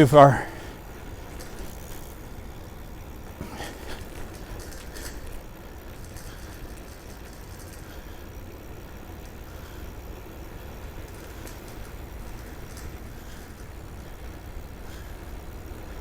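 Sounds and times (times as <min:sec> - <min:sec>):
bicycle tyres rolling: 0:00.0 - 0:16.0
faint clicks and rattles: 0:00.0 - 0:16.0.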